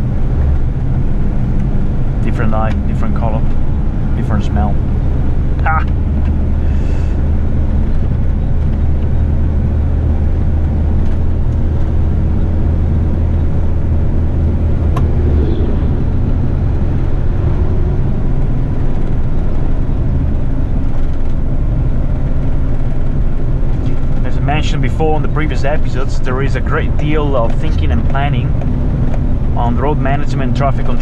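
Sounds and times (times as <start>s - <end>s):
truck diesel engine running: 0.0s - 31.0s.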